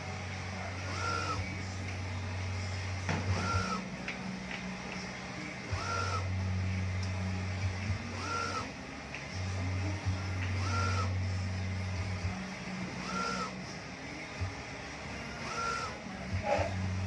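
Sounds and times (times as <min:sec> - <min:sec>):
printer motor whine: 0:00.0 - 0:17.0.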